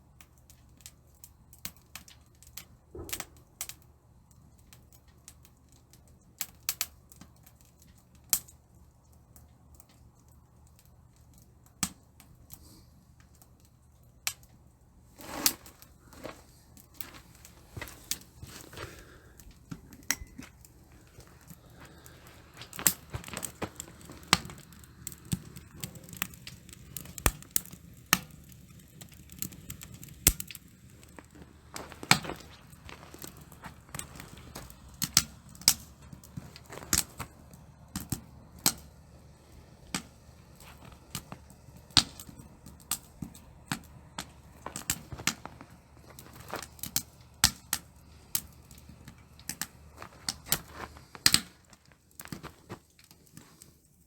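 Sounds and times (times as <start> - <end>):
wood fire crackling in a stove: 0.0 - 54.0.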